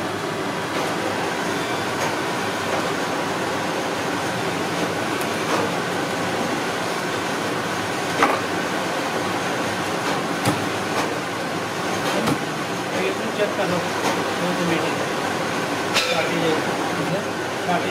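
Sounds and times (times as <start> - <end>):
workshop machine noise: 0.0 - 17.9.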